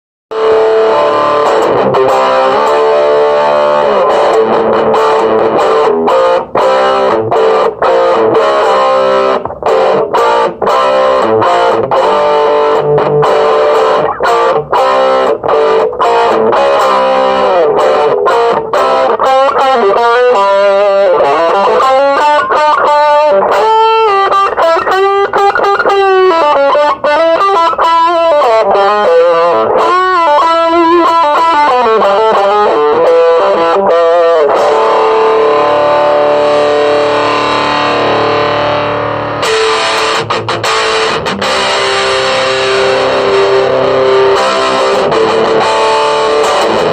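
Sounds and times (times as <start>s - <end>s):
distorted electric guitar: 0.3s - 46.9s.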